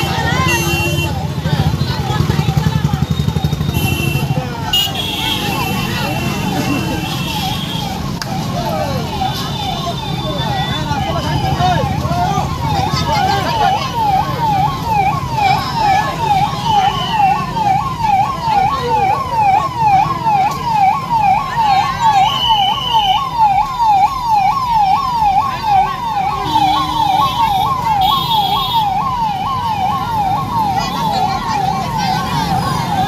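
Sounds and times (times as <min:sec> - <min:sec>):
ambulance siren yelp: 0:05.2 - 0:33.0.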